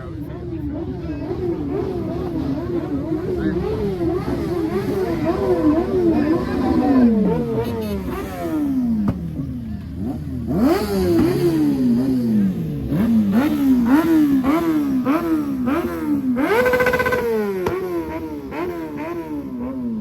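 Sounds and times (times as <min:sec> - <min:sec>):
car engine revving: 0:00.7 - 0:20.0.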